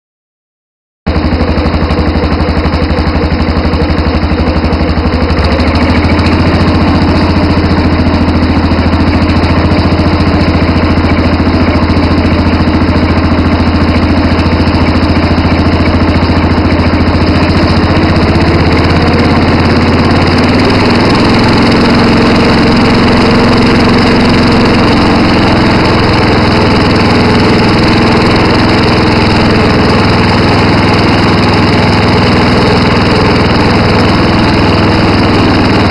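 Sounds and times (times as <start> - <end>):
small tractor engine running: 1.1 - 35.9.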